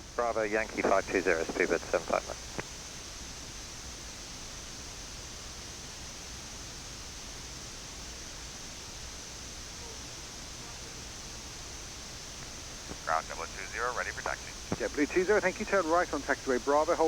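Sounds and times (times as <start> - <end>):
flight deck background hiss: 0.0 - 17.0.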